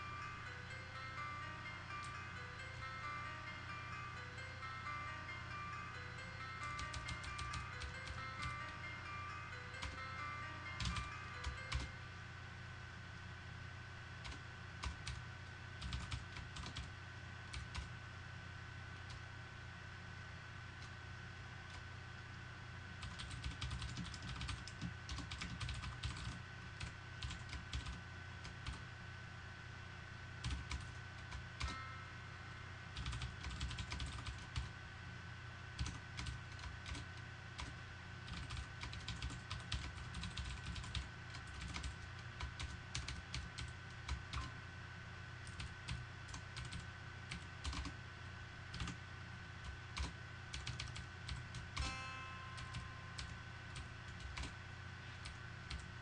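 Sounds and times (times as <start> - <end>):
low hum: 0.0 - 25.1, 25.8 - 56.0
faint high whine: 0.0 - 56.0.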